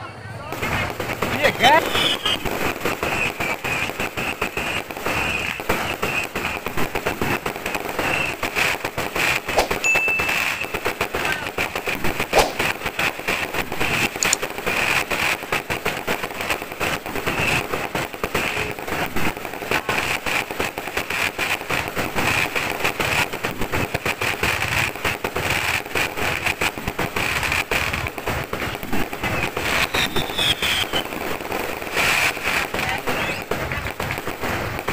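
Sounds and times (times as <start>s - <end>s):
firecrackers popping and banging: 0.4s - 34.9s.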